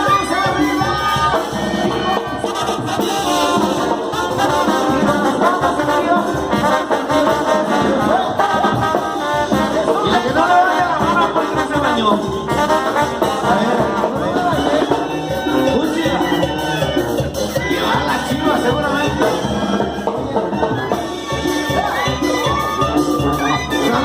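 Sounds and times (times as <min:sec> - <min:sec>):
busy percussion: 0:00.0 - 0:24.0
latin dance music with brass: 0:00.0 - 0:24.0.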